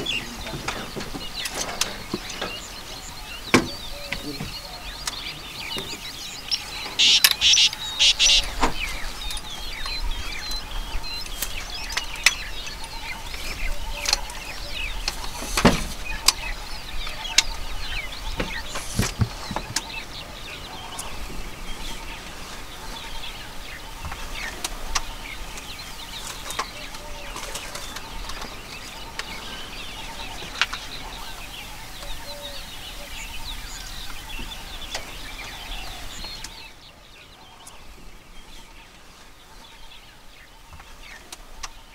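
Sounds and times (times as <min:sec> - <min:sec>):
birds calling and chirping: 0:00.0 - 0:41.9.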